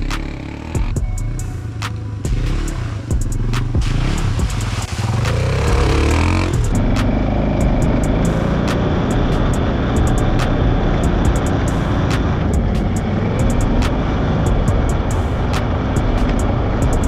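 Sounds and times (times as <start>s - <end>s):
dirt bike revving: 0.0s - 17.0s
off-road vehicle engine running: 0.0s - 17.0s.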